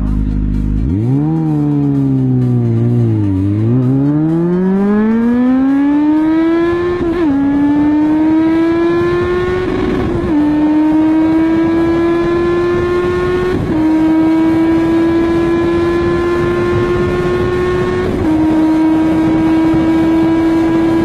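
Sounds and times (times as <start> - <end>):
motorbike engine revving high: 0.0 - 21.0.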